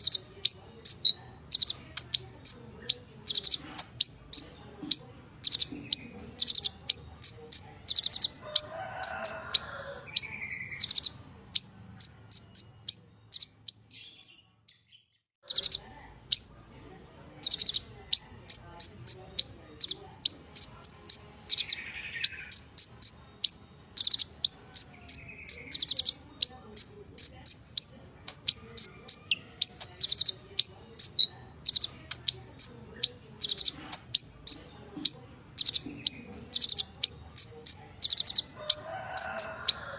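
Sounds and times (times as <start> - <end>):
bird singing high chirps: 0.0 - 16.6, 17.4 - 39.9.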